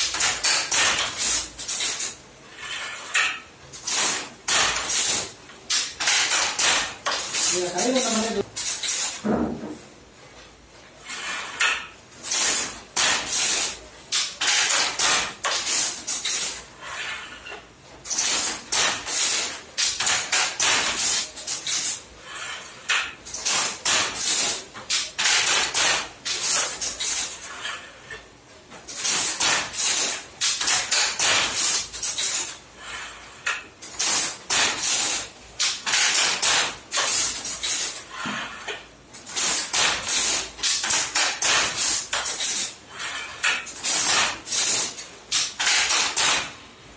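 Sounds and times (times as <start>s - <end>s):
handloom wooden and metal clacks: 0.0s - 9.8s, 11.0s - 46.6s.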